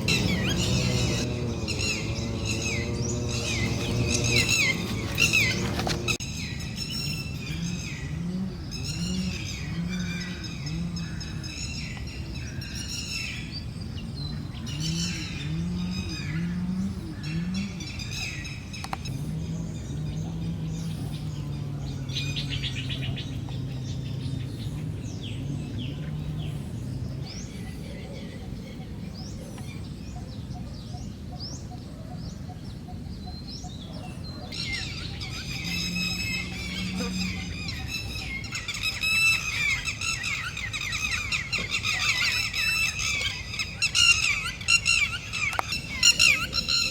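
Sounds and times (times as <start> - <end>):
deep low bird call: 0.0 - 13.4, 14.3 - 30.6, 32.8 - 46.9
birds chirping and singing: 0.0 - 46.9.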